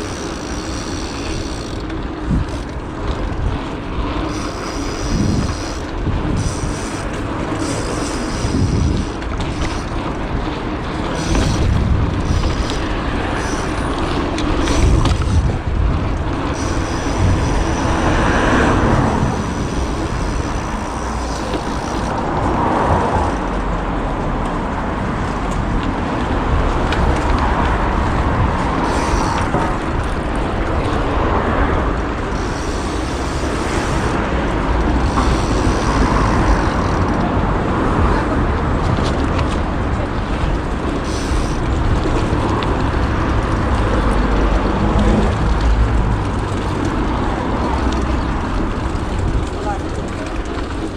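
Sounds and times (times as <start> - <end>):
city traffic rumble: 0.0 - 50.9
wind buffeting microphone: 0.7 - 50.9.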